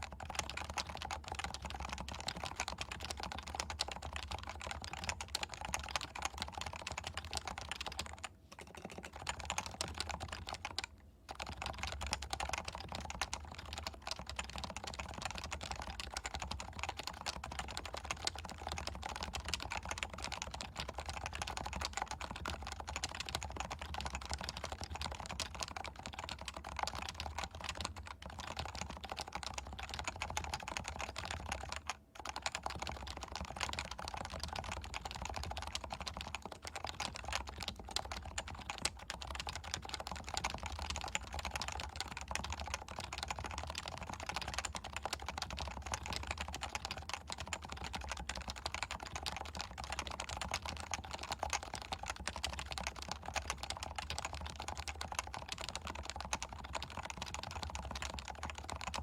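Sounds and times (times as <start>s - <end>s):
fast typing on a keyboard: 0.0s - 59.0s.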